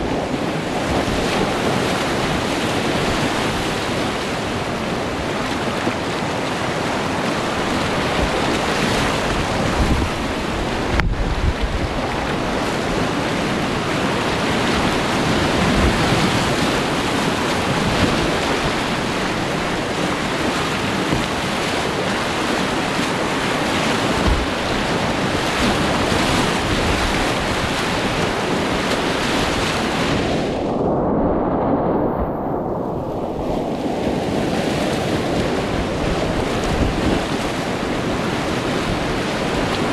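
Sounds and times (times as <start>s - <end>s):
whitewater rushing roar: 0.0s - 39.9s.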